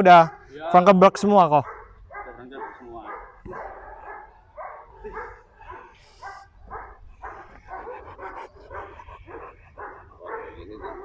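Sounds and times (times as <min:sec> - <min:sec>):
dogs barking: 0:00.0 - 0:00.6, 0:01.5 - 0:11.0.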